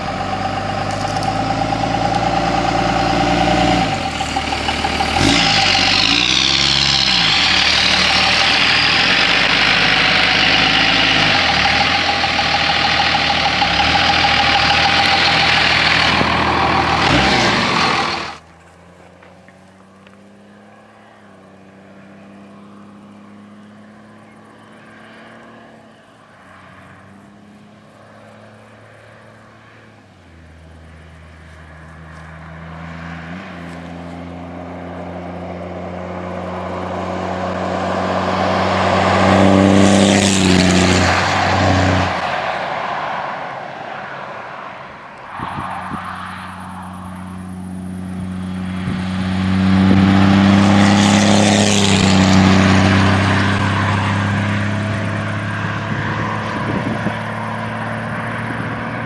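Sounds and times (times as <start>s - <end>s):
diesel truck driving past: 0.0s - 59.0s.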